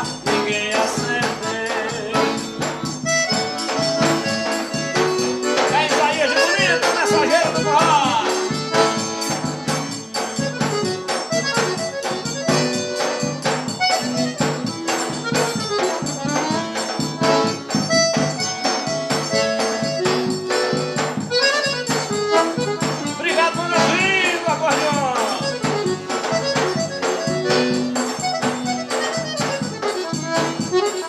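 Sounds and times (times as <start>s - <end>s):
accordion melody: 0.0s - 31.0s
shaken and struck percussion: 0.0s - 31.0s.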